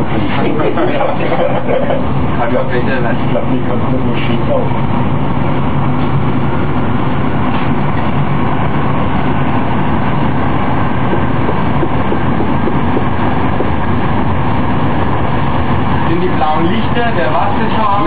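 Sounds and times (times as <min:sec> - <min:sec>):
low motor hum: 0:00.0 - 0:18.0
train wheels rumbling on track: 0:00.0 - 0:18.0.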